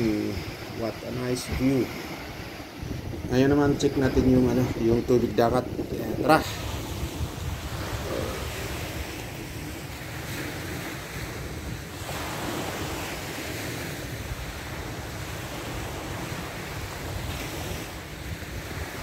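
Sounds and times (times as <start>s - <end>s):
small waves breaking on sand: 0.0s - 19.0s
wind buffeting microphone: 0.0s - 19.0s.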